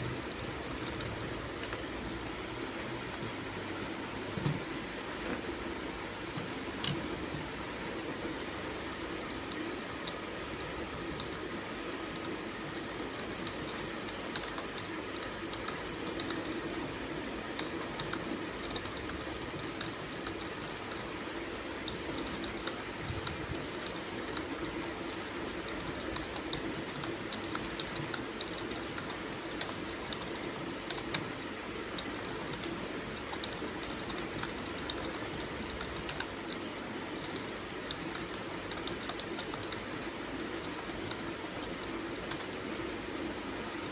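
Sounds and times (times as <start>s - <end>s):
steady background noise: 0.0s - 43.9s
fast typing on keyboard: 0.2s - 2.1s, 9.1s - 43.0s.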